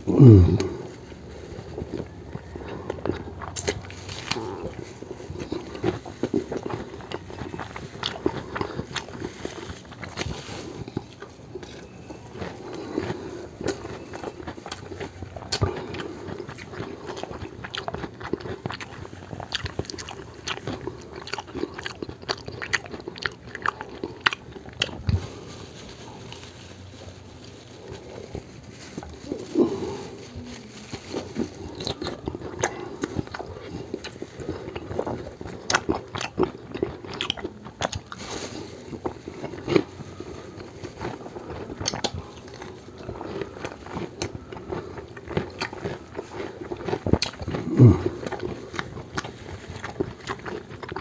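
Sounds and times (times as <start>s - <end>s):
biting and chewing crunches: 0.0s - 51.0s.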